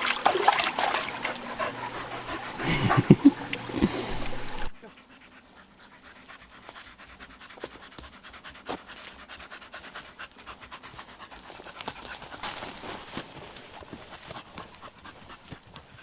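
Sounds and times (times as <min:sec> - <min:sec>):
dog panting: 0:00.6 - 0:16.0.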